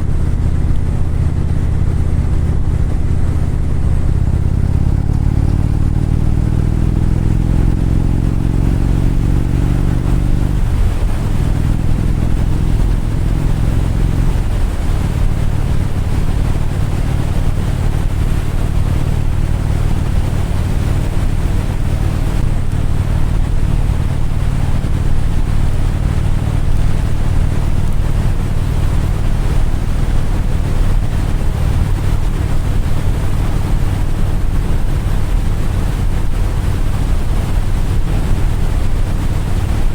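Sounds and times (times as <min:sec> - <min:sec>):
motorcycle engine: 0:00.0 - 0:39.9
road and wind noise: 0:00.0 - 0:39.9.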